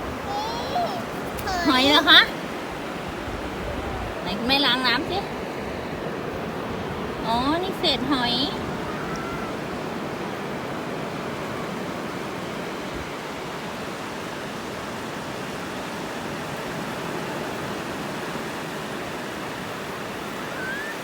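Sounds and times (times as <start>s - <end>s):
waves washing onto beach: 0.0s - 21.0s.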